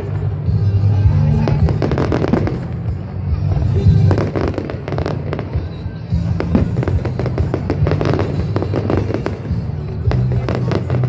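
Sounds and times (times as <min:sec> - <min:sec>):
fireworks cracking and popping: 0:00.0 - 0:11.0
music: 0:00.0 - 0:11.0.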